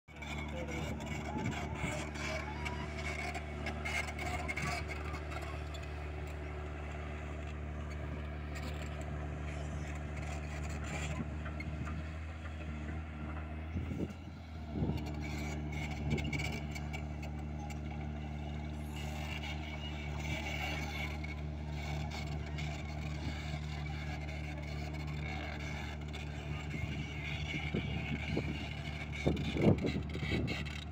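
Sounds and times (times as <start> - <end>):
excavator diesel engine under load: 0.1 - 30.9.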